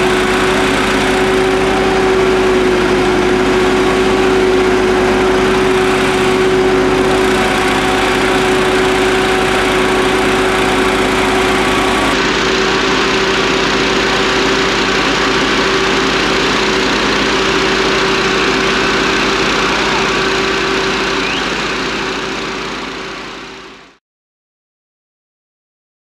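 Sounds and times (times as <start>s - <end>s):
ventilation fan engine drone: 0.0s - 23.8s.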